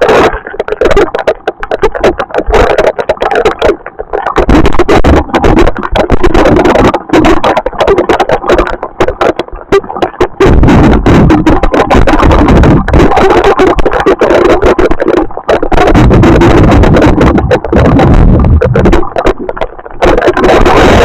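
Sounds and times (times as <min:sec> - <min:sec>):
crackle of rain hits: 0:00.0 - 0:21.0
wind buffeting microphone: 0:01.2 - 0:21.0.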